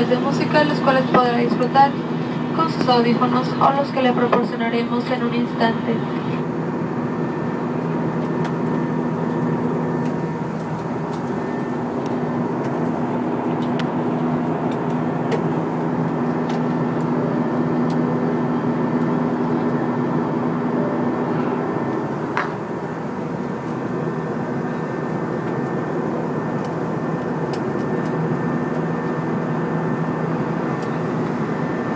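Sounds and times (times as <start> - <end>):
airliner cabin engine noise: 0.0 - 31.9.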